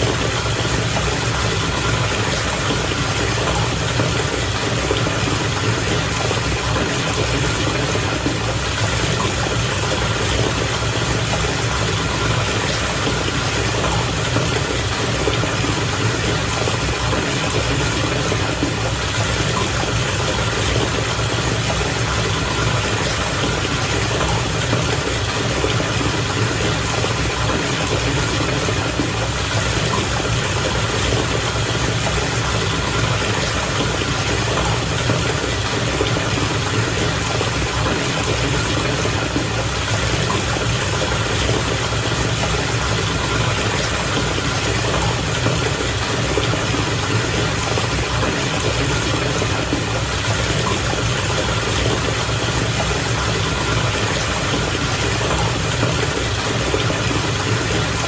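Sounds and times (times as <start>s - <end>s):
bath water bubbling: 0.0s - 58.0s.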